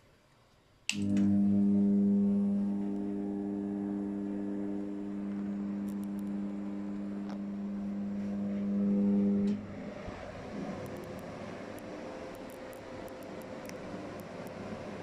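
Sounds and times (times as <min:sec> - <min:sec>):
air conditioner humming: 0:00.8 - 0:15.0.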